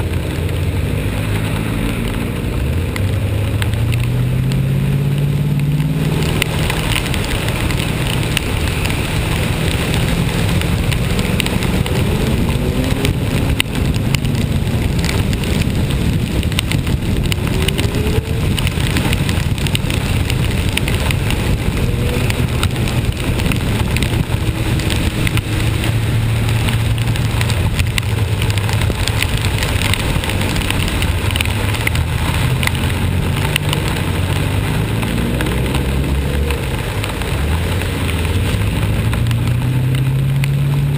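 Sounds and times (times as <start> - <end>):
rain and wet road noise: 0.0 - 40.9
vehicle engine running: 0.0 - 40.9.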